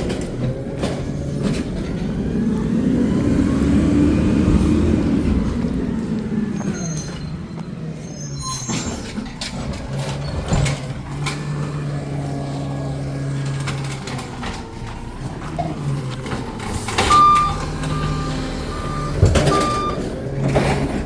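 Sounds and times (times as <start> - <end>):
garbage truck engine humming: 0.0 - 21.0.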